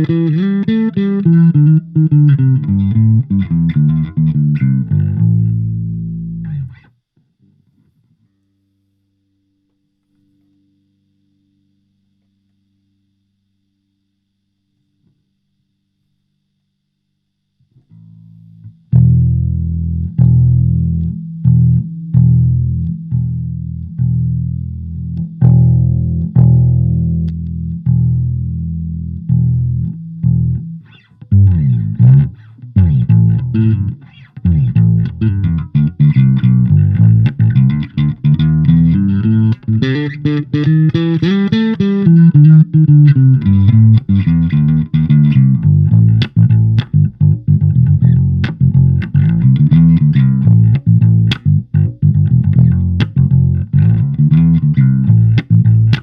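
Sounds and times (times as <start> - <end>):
electric bass guitar notes: 0.0 - 6.9, 17.9 - 56.0.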